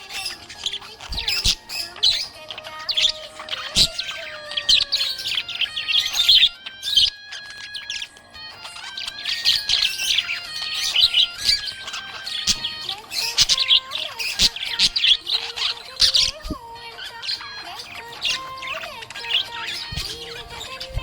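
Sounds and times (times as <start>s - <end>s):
background music with held notes: 0.0s - 21.0s
budgerigars chirping and warbling: 0.0s - 21.0s.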